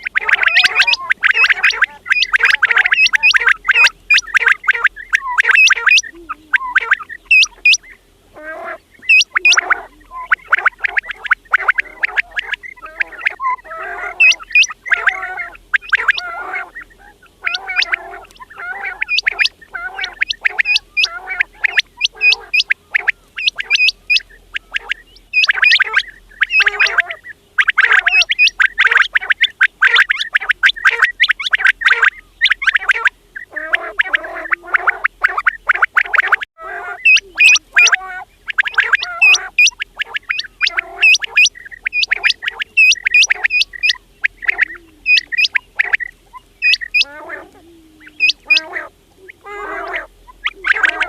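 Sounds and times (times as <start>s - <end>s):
quails calling: 0.0s - 51.0s.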